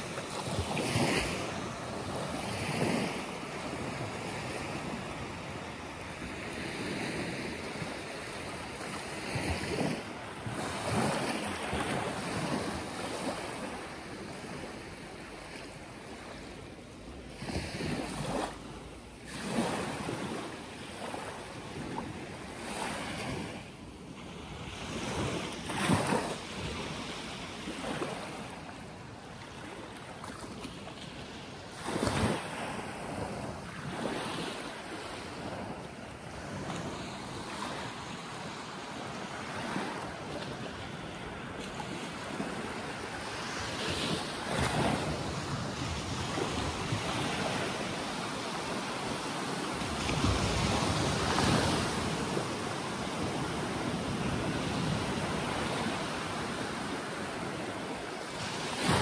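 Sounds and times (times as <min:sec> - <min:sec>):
small waves breaking on beach: 0:00.0 - 0:59.0.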